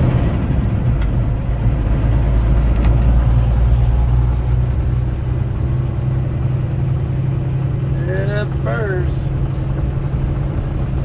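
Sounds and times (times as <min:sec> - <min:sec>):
diesel engine drone: 0:00.0 - 0:11.0
road noise: 0:00.0 - 0:11.0.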